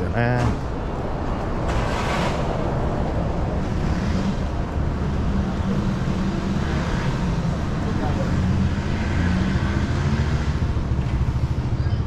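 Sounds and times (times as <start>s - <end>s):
car passing: 0.6s - 12.0s.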